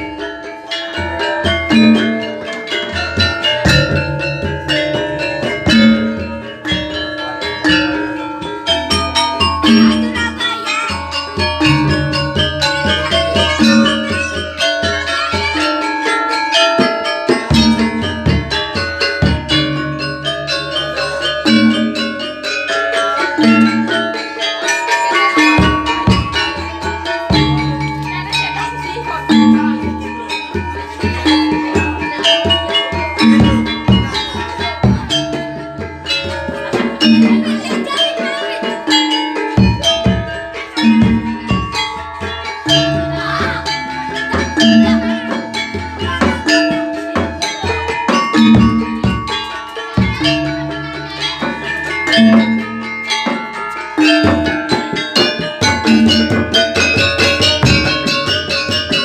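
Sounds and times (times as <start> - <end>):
drum rhythm: 0.0 - 59.0
gamelan ensemble playing: 0.0 - 59.0.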